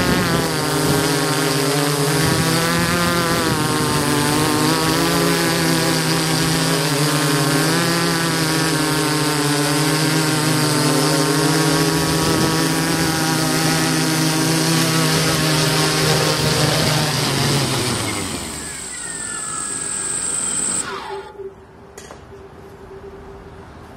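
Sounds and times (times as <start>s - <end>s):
drone motors humming and whining: 0.0s - 21.5s.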